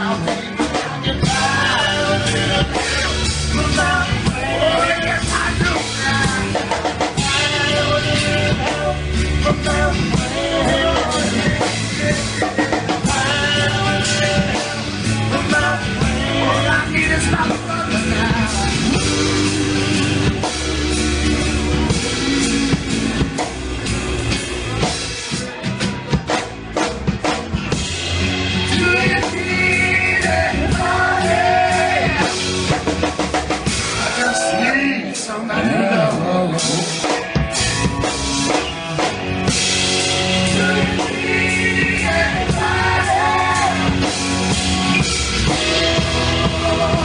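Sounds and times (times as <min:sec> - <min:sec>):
person singing: 0:00.0 - 0:25.6, 0:28.4 - 0:47.0
rock band playing: 0:00.0 - 0:47.0.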